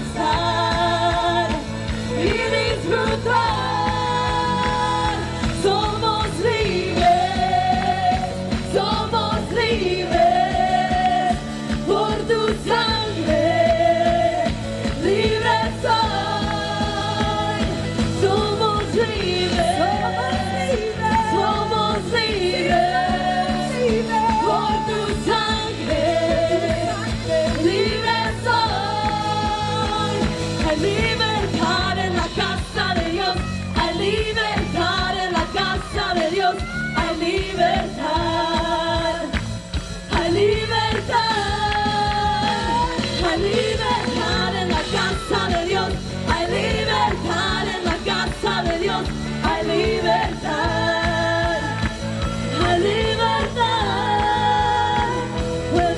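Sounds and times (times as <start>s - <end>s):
band playing worship music: 0.0s - 55.9s
people singing: 0.0s - 55.9s.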